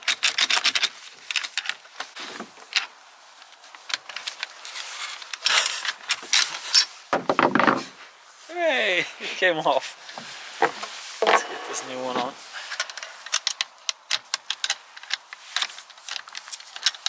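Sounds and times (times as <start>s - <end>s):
saddle rails clicking and scraping: 0.0s - 8.0s, 10.0s - 17.0s.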